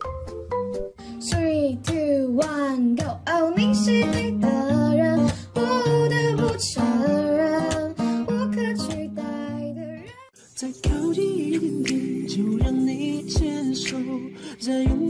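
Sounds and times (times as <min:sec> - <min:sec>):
plucked guitar: 0:00.0 - 0:10.3, 0:10.9 - 0:15.0
person singing: 0:01.0 - 0:15.0.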